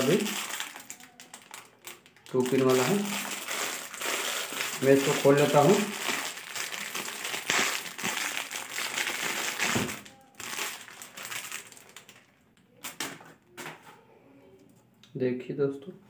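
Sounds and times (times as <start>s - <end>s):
plastic packet crinkling: 0.0s - 13.2s.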